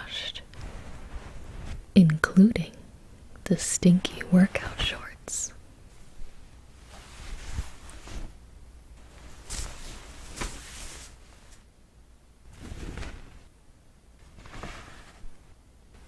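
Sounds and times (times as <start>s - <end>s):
fabric rustling: 0.0s - 11.8s, 12.4s - 16.0s.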